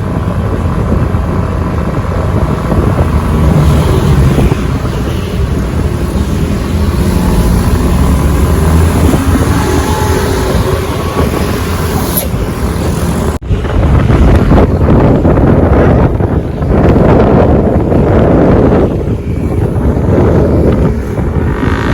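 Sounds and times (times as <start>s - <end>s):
vehicle rumble on road: 0.0s - 21.9s
wind buffeting microphone: 0.0s - 21.9s.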